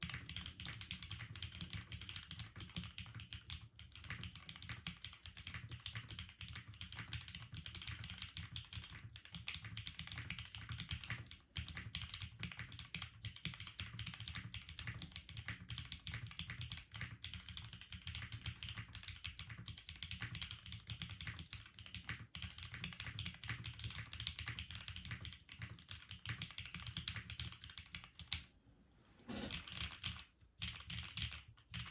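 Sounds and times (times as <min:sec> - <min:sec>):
mechanical keyboard typing: 0:00.0 - 0:28.4, 0:29.3 - 0:31.9.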